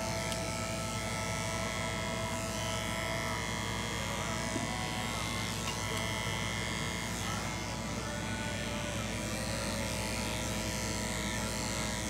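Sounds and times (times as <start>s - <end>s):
electric clipper shearing wool: 0.0s - 12.0s.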